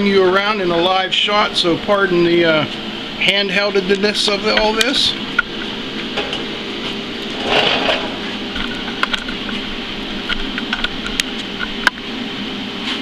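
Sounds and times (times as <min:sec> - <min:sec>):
mechanical fan hum: 0:00.0 - 0:13.0.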